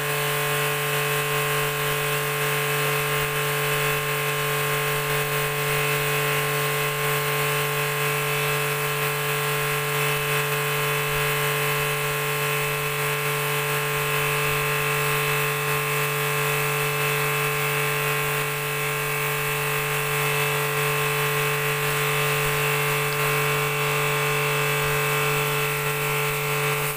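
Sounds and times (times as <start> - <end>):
pressure washer motor drone: 0.0 - 26.9.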